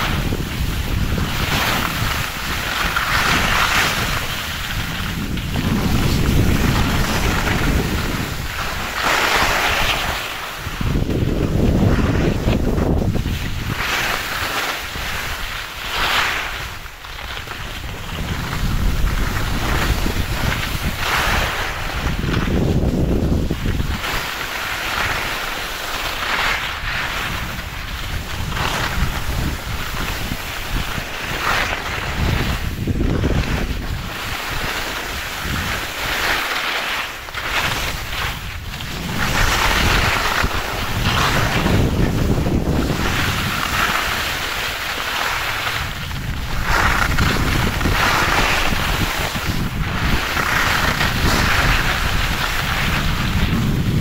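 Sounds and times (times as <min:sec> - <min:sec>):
skis scraping snow: 0:00.0 - 0:54.0
wind on microphone: 0:00.0 - 0:54.0.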